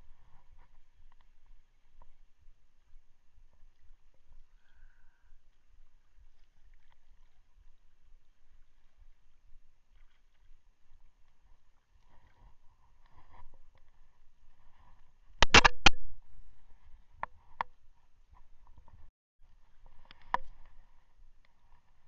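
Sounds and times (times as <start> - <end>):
sea water: 0.0 - 22.0.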